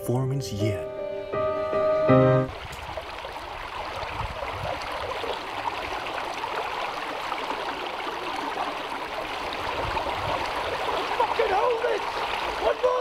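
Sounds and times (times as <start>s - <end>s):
river water flowing: 0.9s - 13.0s.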